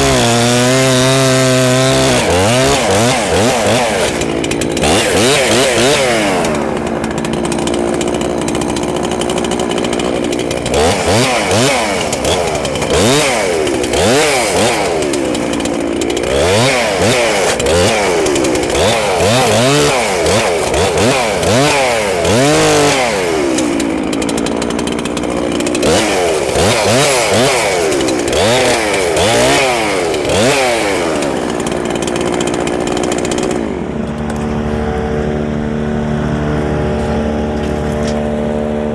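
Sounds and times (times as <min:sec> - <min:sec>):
wood chipper chipping branches: 0:00.0 - 0:38.9.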